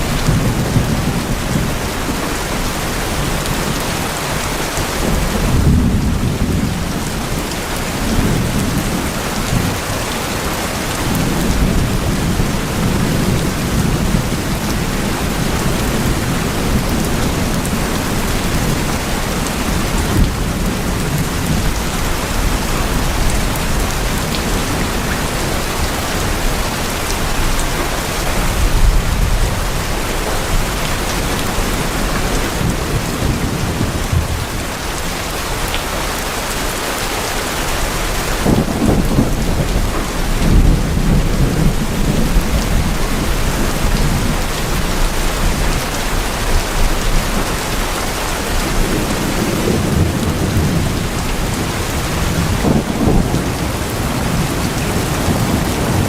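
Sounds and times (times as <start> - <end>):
heavy rain on tin roofs: 0.0 - 56.0.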